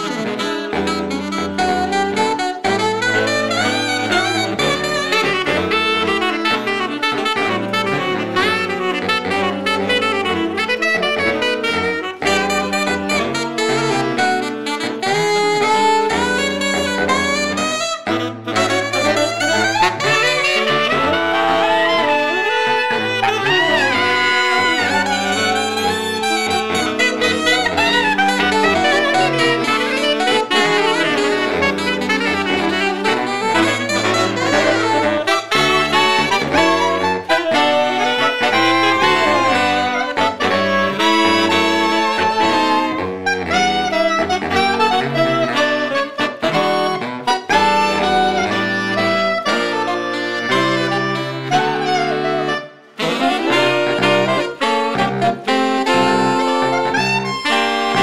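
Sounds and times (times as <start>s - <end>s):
saxophone quintet playing jazz fusion: 0.0s - 58.0s.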